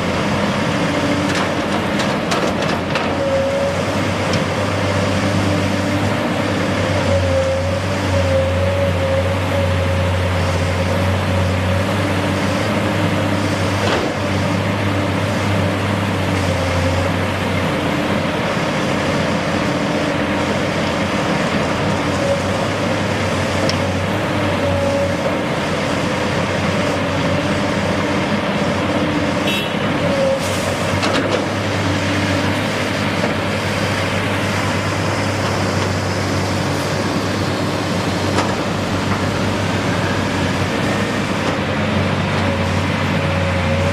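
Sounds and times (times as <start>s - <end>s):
heavy engine humming: 0.0s - 43.9s.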